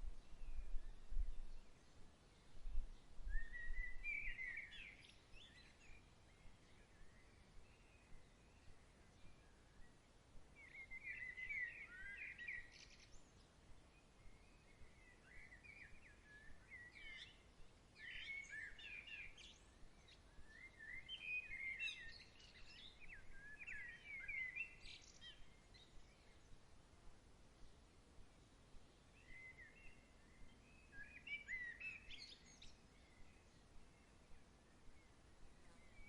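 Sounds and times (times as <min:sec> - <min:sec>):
soft background hiss: 0:00.0 - 0:36.0.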